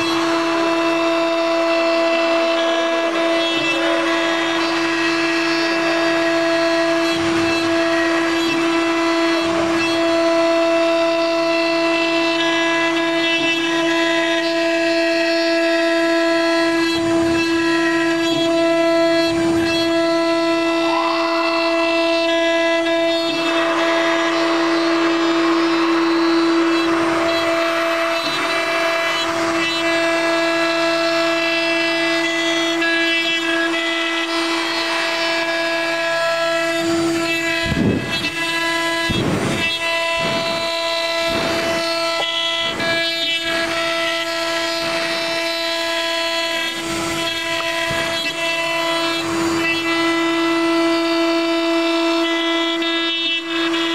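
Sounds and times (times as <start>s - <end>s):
rough cutting of wood: 0.0s - 53.9s
router spindle whine: 0.0s - 53.9s.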